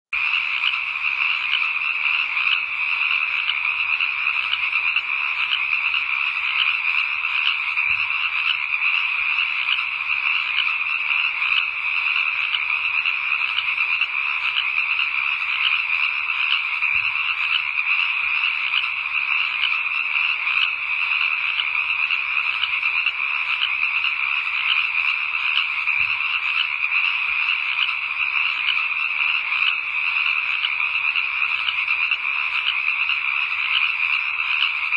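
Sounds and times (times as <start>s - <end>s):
chorus of calling frogs: 0.1s - 34.9s.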